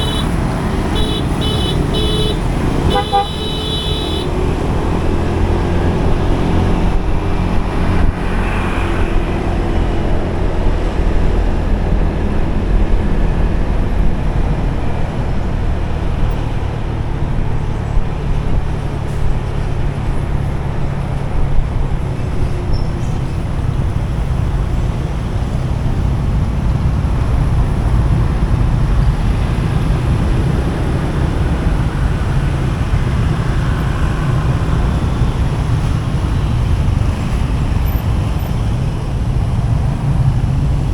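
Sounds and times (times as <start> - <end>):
motorbike in motion: 0.0 - 40.9
traffic road rumble: 0.0 - 40.9.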